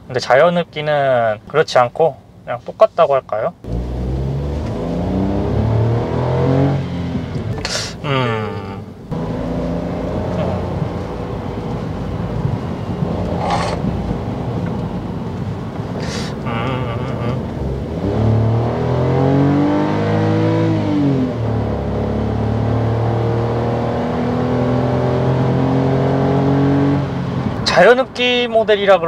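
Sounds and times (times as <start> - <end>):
car engine accelerating: 3.6 - 28.4.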